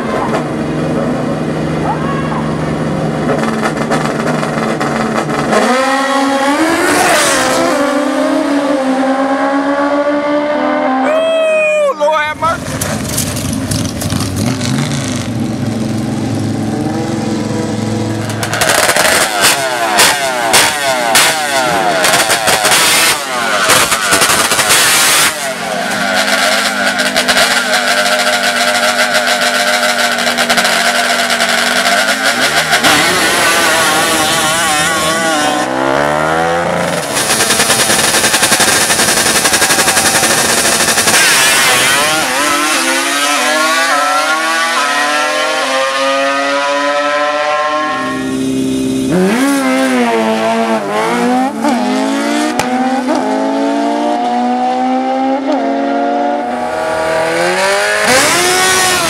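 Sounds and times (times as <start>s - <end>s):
racing engines revving: 0.0s - 11.1s, 12.2s - 59.0s.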